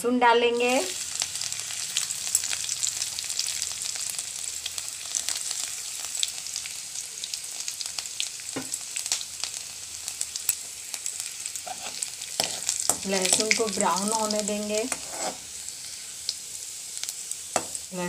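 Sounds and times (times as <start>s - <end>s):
garlic sizzling in oil: 0.4s - 18.0s.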